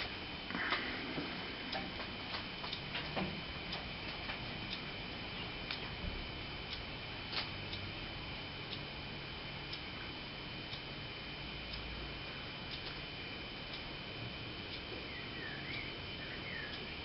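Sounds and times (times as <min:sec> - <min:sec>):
oscilloscope dials clicking: 0:00.0 - 0:06.0, 0:08.6 - 0:17.0
faint high whine: 0:00.0 - 0:17.0
steady hiss: 0:00.0 - 0:17.0.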